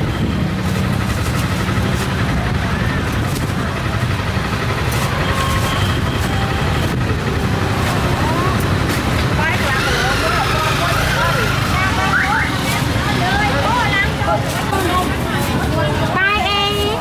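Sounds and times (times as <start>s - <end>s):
background chatter: 0.0s - 17.0s
engine hum: 0.0s - 17.0s.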